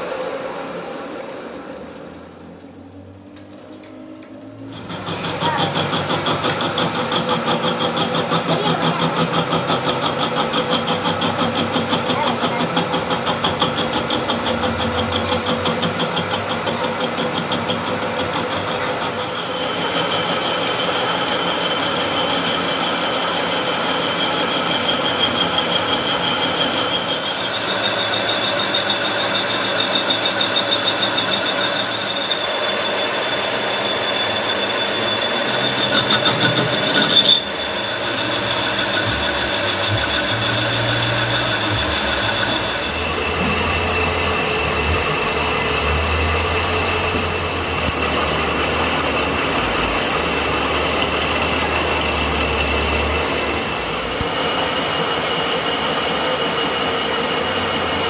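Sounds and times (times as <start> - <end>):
machine running hum: 0.0 - 58.0
metal lathe cutting whine: 4.4 - 58.0.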